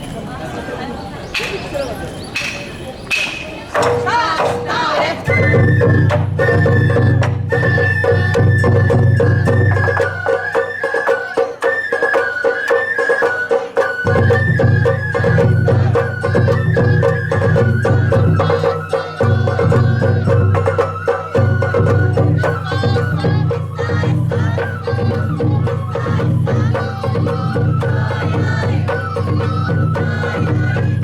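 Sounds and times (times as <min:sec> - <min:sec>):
bamboo flute melody: 0:00.4 - 0:31.0
rapid taiko drum strokes: 0:02.4 - 0:31.0.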